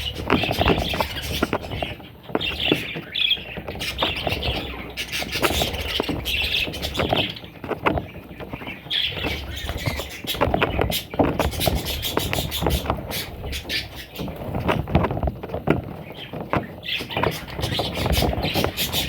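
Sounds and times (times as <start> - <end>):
budgerigars chirping and squawking: 0.0 - 15.0, 16.0 - 19.0
small clicks and scratching: 0.0 - 19.0.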